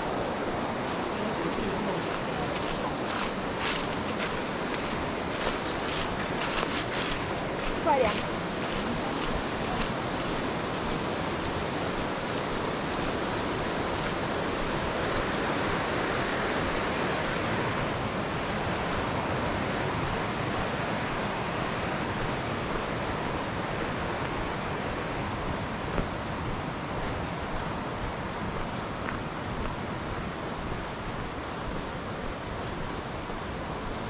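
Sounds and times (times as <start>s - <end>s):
water rushing over rocks: 0.0s - 34.0s.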